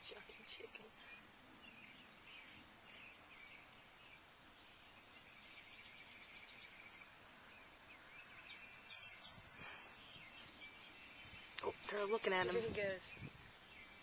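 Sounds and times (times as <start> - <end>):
faint outdoor hiss: 0.0 - 14.0
distant high chirping: 1.0 - 14.0.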